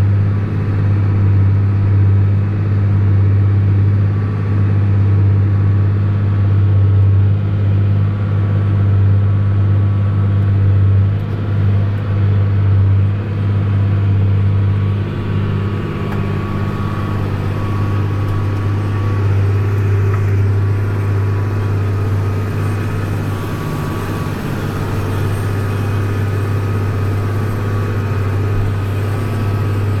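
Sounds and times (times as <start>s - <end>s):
tractor diesel engine droning: 0.0s - 30.0s.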